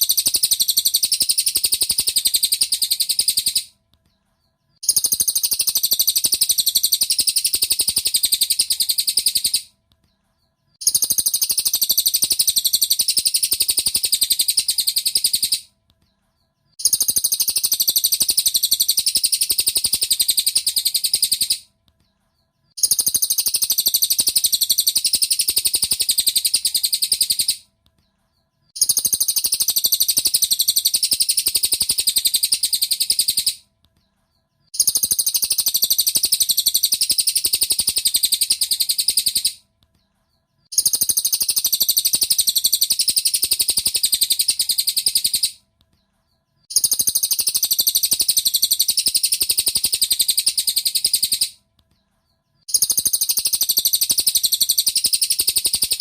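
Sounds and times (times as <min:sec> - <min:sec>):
rapid high bird chirping: 0:00.0 - 0:56.0.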